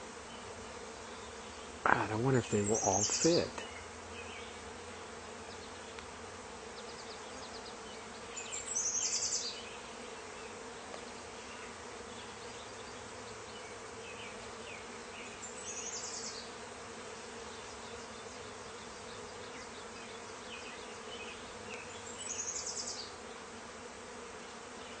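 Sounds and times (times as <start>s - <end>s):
honeybee swarm humming: 0.0s - 25.0s.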